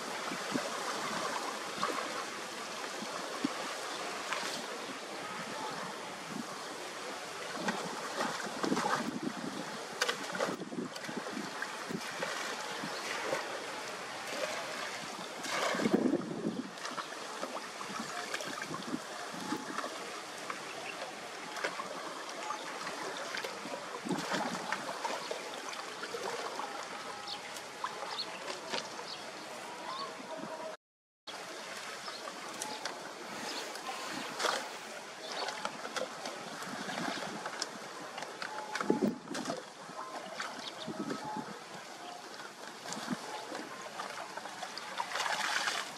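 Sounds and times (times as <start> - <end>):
water sloshing and splashing: 0.0 - 30.0, 31.4 - 45.9.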